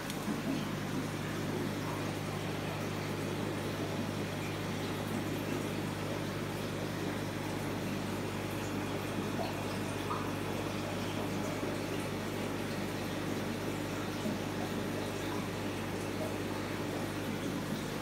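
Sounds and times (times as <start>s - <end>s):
aquarium air pump hum: 0.0s - 18.0s.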